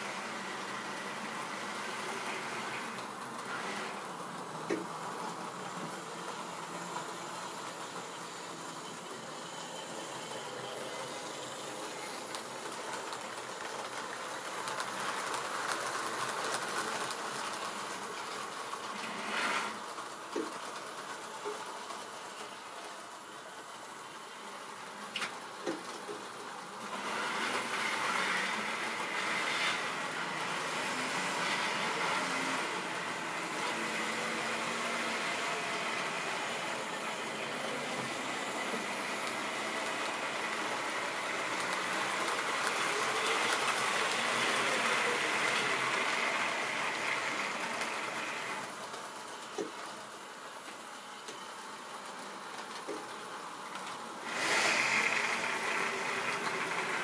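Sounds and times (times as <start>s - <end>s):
model train motors whirring: 0.0s - 57.0s.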